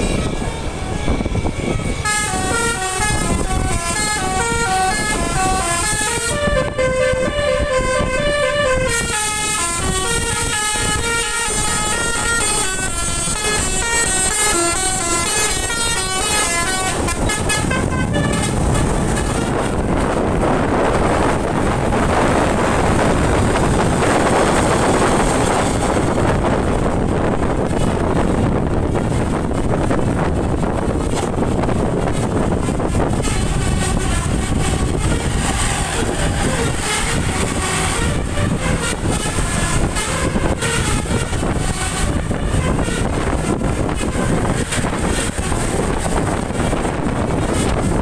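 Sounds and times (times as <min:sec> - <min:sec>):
loud steady rushing noise: 0:00.0 - 0:48.0
musical bus air horns: 0:00.0 - 0:48.0.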